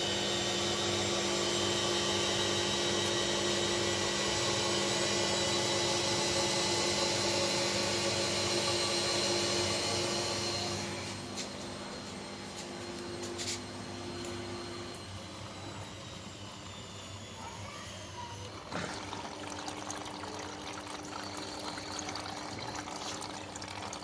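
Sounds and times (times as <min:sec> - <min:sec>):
washing machine motor whirring: 0:00.0 - 0:24.0.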